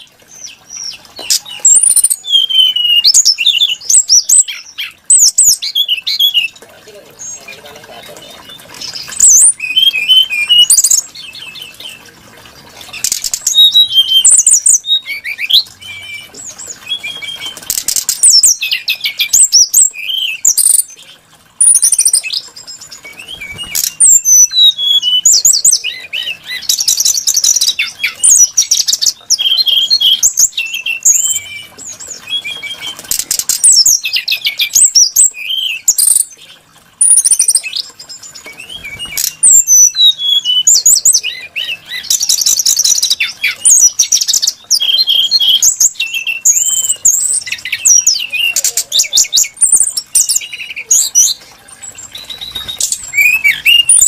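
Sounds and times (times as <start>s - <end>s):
bird singing whistled trills: 0.0s - 6.6s, 7.2s - 12.1s, 12.9s - 21.0s, 21.6s - 54.0s.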